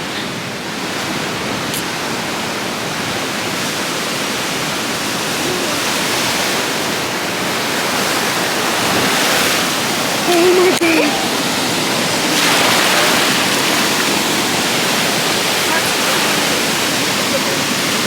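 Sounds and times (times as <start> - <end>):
ocean surf washing: 0.0 - 18.0.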